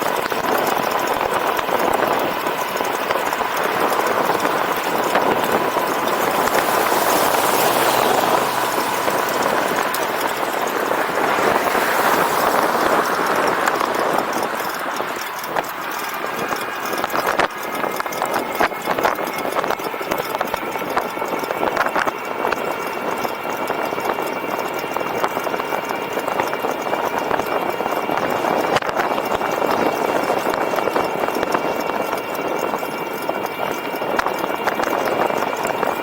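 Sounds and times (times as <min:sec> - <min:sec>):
bike rattling over bumps: 0:00.0 - 0:36.0
faint steady whine: 0:00.0 - 0:36.0
wind and tyres rushing: 0:00.0 - 0:36.0.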